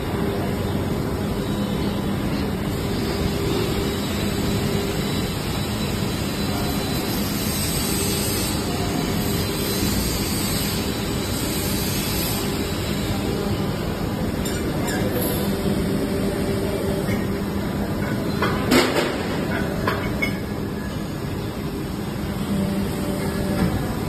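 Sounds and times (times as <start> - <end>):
injection moulding machine running: 0.0 - 24.0.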